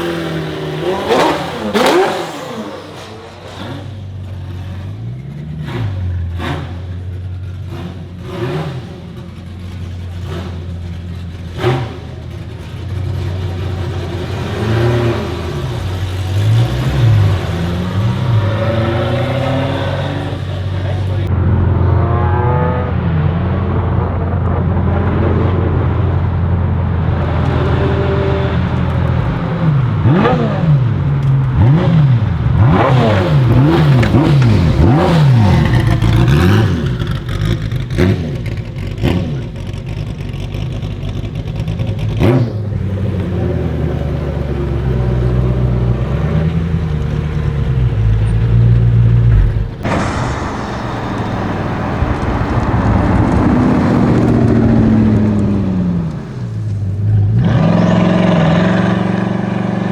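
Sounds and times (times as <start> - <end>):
car engine revving: 0.0 - 59.9
exhaust cracks: 0.0 - 59.9.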